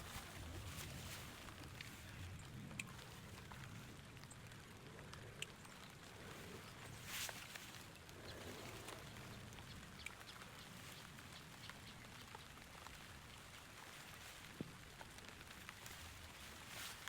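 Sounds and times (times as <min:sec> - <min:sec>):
light rain patter: 0:00.0 - 0:17.0
raindrops ticking on surfaces: 0:00.0 - 0:17.0.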